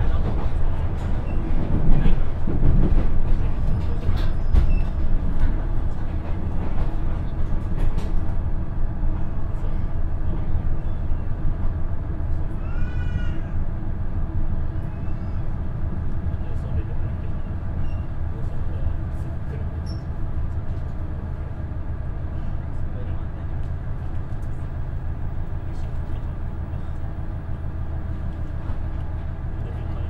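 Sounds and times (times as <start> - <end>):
railcar engine and wheel rumble: 0.0 - 30.0.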